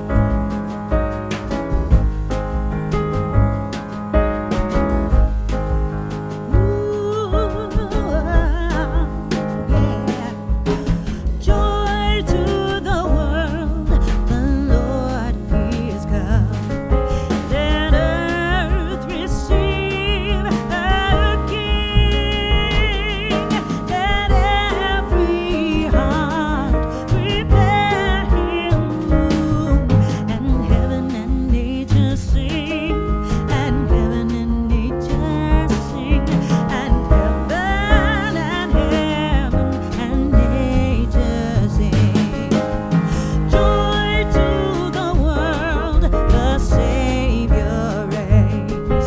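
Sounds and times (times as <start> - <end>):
guitar: 0.0 - 49.0
low bass notes: 0.0 - 49.0
person singing: 6.5 - 49.0.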